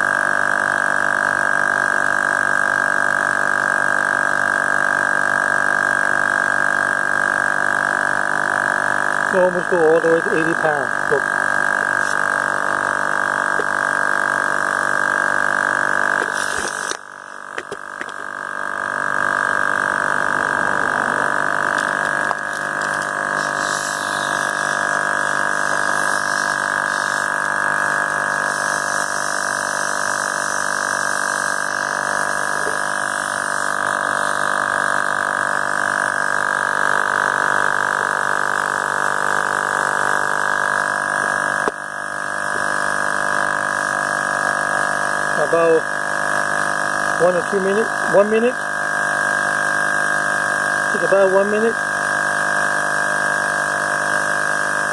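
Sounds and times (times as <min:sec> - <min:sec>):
air compressor buzzing whine: 0:00.0 - 0:54.9.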